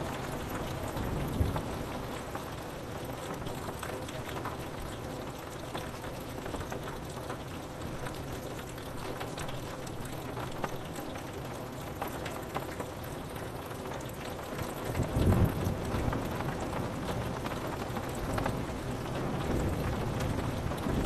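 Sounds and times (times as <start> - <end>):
rain on a window pane: 0.0 - 21.0.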